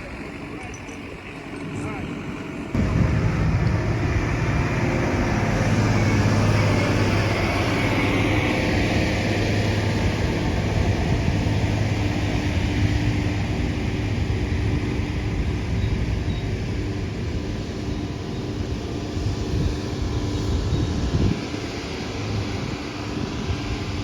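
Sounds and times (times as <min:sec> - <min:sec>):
steady low rumble: 0:02.7 - 0:24.0.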